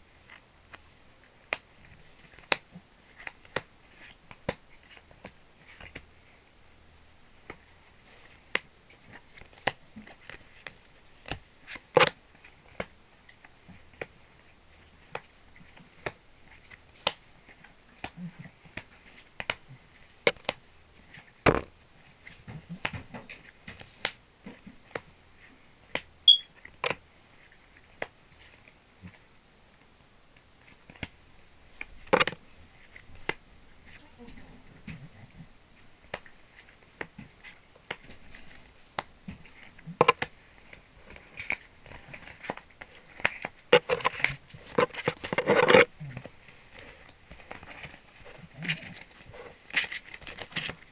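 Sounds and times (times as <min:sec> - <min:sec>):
cards handled on a table: 0:00.2 - 0:06.4, 0:07.4 - 0:50.9.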